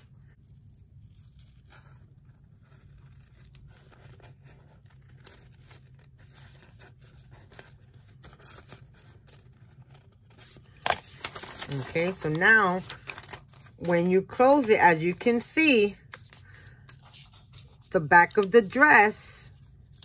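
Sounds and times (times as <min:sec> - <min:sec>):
scissors snipping paper: 0:00.4 - 0:19.1.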